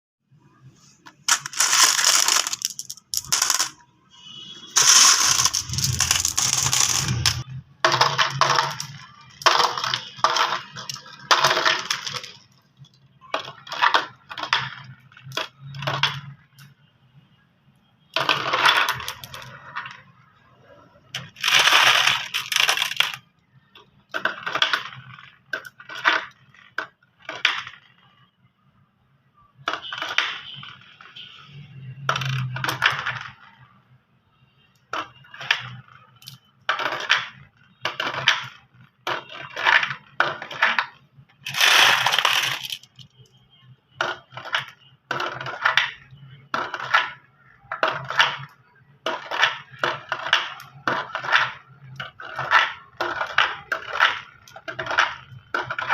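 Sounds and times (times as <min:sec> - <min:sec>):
marbles rattling down a track: 0:01.2 - 0:03.9, 0:04.7 - 0:12.6, 0:13.3 - 0:16.7, 0:18.2 - 0:20.0, 0:21.1 - 0:23.4, 0:24.0 - 0:28.1, 0:29.6 - 0:31.4, 0:32.0 - 0:33.5, 0:34.8 - 0:43.4, 0:44.0 - 0:55.9.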